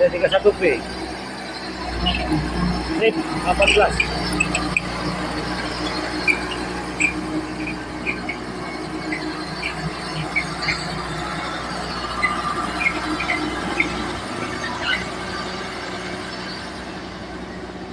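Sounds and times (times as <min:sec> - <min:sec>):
short high squeaks: 0:00.0 - 0:16.6
dozer diesel engine running: 0:00.0 - 0:17.9.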